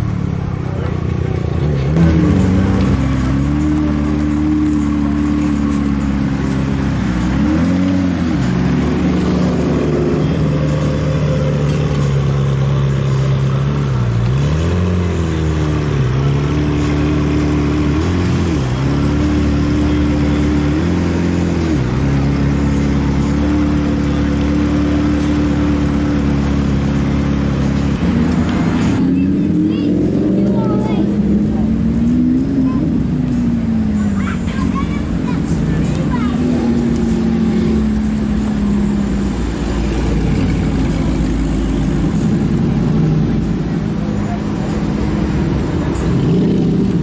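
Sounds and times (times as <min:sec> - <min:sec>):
car engine idling and revving: 0:00.0 - 0:47.0.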